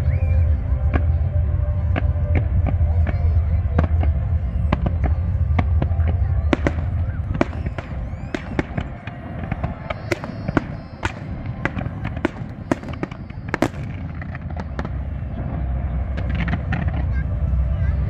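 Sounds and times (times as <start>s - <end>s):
low rumble: 0.0s - 18.0s
fireworks bangs: 1.9s - 17.4s.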